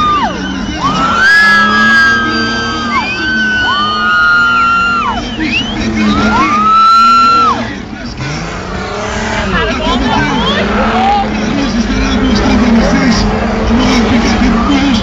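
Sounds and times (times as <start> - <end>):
car engine at high revs: 0.0 - 15.0
car tyres squealing: 0.0 - 15.0.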